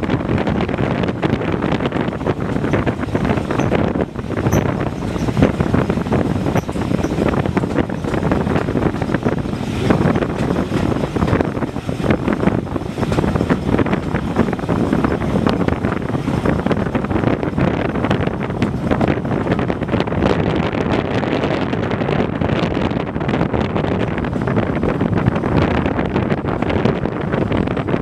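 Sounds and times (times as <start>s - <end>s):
train running on track: 0.0s - 28.0s
wind buffeting microphone: 0.0s - 28.0s.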